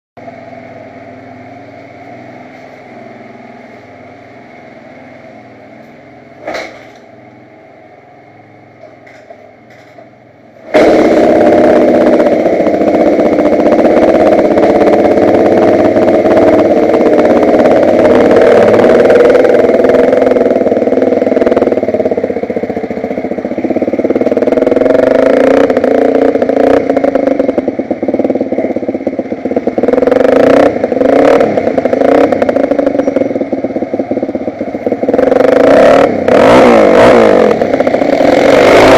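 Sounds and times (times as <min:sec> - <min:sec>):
motorbike engine idling: 0:00.2 - 0:38.9.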